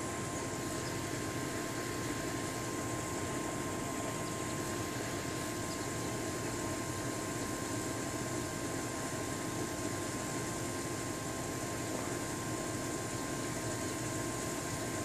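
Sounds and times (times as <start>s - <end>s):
steady background hum or hiss: 0.0s - 15.0s
thin steady whine: 0.0s - 15.0s.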